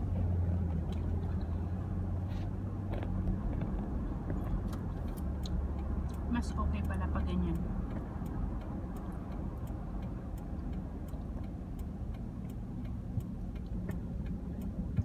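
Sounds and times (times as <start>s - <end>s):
engine and road rumble: 0.0s - 15.0s
light regular ticking: 2.8s - 15.0s.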